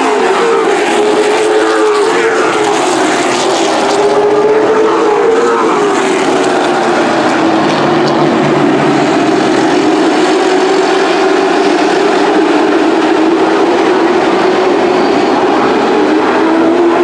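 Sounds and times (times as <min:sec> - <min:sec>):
race truck engines droning: 0:00.0 - 0:17.0.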